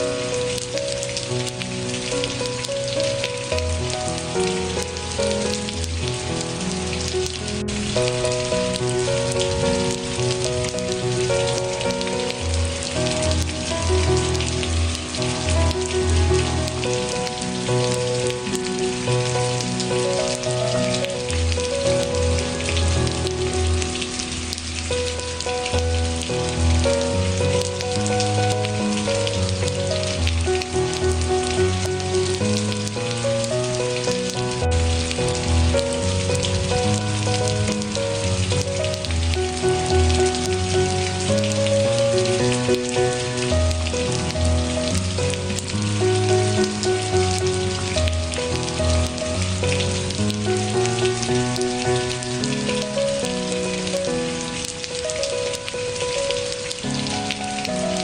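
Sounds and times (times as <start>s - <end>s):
slow instrumental music: 0.0s - 58.0s
steady rain: 0.0s - 58.0s.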